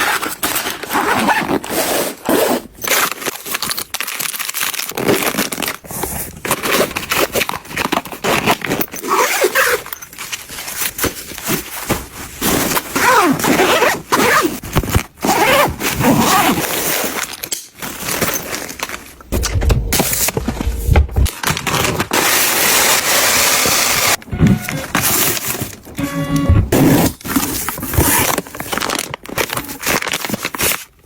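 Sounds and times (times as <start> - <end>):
packaging tearing and rustling: 0.0 - 26.0, 26.8 - 31.0.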